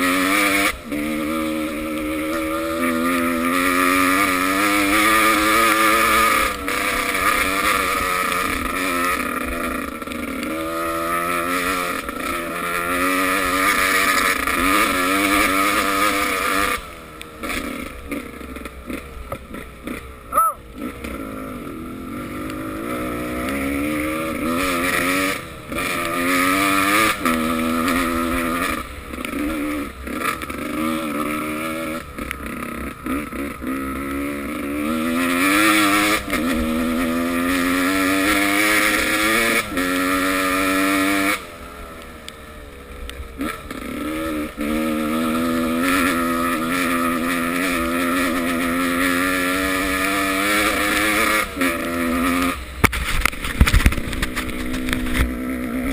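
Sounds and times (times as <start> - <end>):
motocross bike engines revving: 0.0 - 55.9.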